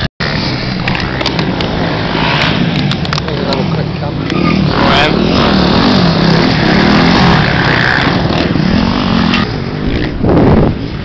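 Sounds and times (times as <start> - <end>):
motorcycle engine revving: 0.0 - 10.8
rush of noise: 0.0 - 11.0.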